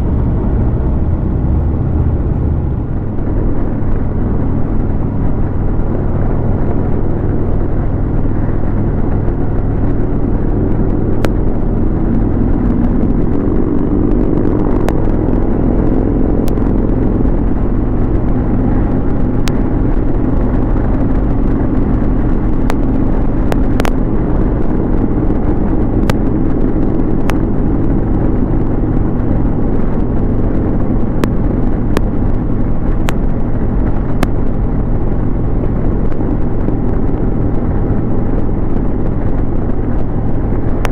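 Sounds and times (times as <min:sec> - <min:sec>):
motorcycle engine cruising: 0:00.0 - 0:40.9
wind rush and road noise: 0:00.0 - 0:40.9.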